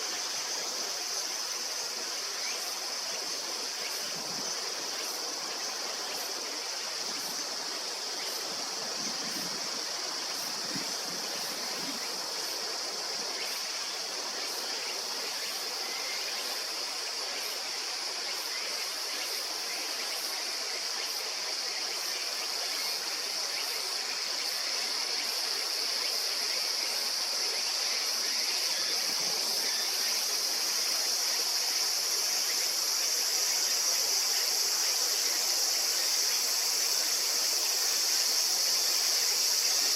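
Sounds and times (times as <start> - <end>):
insect chorus: 0.0 - 39.9
river water running: 0.0 - 39.9.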